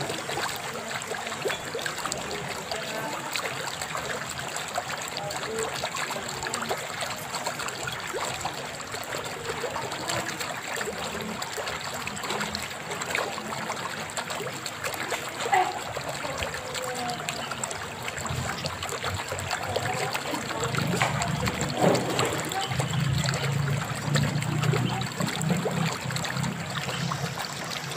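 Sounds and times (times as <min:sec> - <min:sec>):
water trickling: 0:00.0 - 0:27.9.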